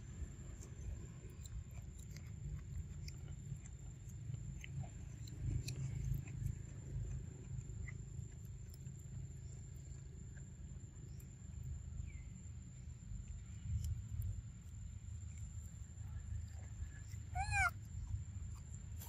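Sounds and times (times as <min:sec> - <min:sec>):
monkeys chewing corn: 0:00.1 - 0:12.2, 0:13.2 - 0:19.0.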